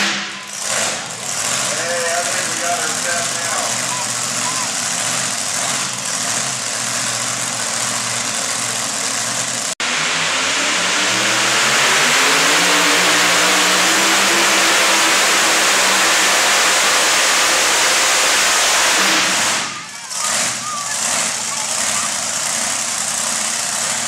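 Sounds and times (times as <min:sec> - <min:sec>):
truck engine revving: 0:00.0 - 0:24.0
truck engine running: 0:00.0 - 0:24.0.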